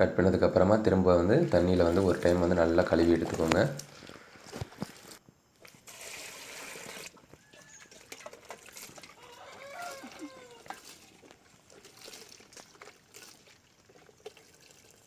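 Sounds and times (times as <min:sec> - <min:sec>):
water splashing: 0:01.1 - 0:05.2, 0:05.9 - 0:15.0.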